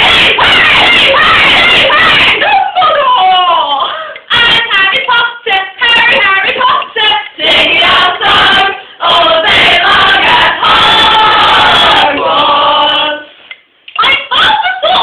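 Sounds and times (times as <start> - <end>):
women singing a cappella chant: 0.0 - 3.4, 4.3 - 13.4.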